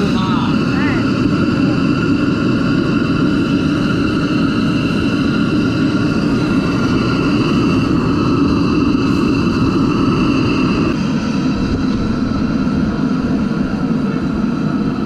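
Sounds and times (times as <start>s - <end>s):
loud machine hum: 0.0s - 15.0s
rushing noise: 0.0s - 15.0s.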